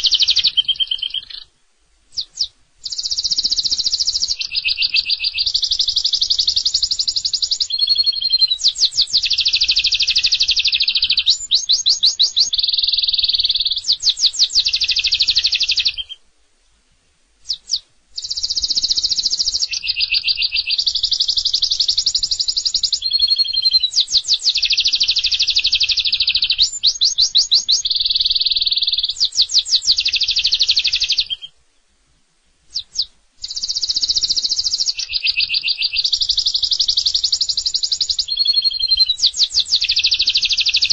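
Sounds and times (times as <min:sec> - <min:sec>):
canary singing trills: 0:00.0 - 0:01.5, 0:02.1 - 0:16.2, 0:17.4 - 0:31.6, 0:32.7 - 0:40.9
canary single chirps: 0:00.0 - 0:01.5, 0:02.1 - 0:16.2, 0:17.4 - 0:31.5, 0:32.7 - 0:40.9.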